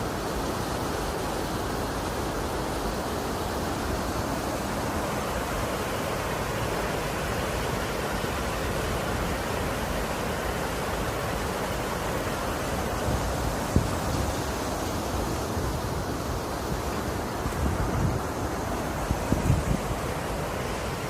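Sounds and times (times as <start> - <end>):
water rushing over dam: 0.0 - 21.0.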